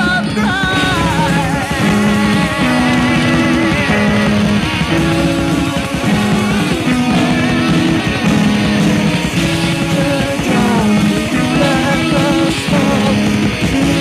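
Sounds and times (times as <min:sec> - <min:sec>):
electric guitar line: 0:00.0 - 0:14.0
held bass notes: 0:00.0 - 0:14.0.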